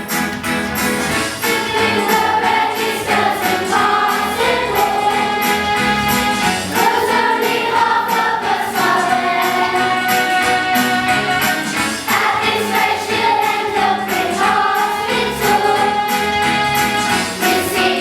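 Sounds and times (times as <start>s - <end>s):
instrumental backing: 0.0s - 18.0s
group singing in long notes: 1.1s - 18.0s.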